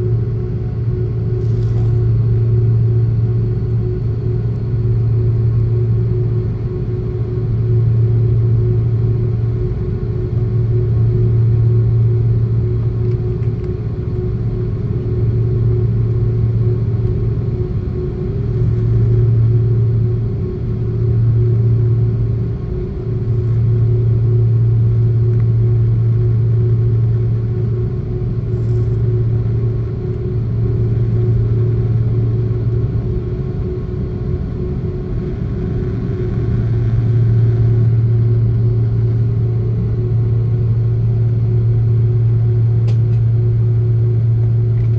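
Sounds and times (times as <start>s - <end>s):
jet engines droning in cabin: 0.0s - 44.9s.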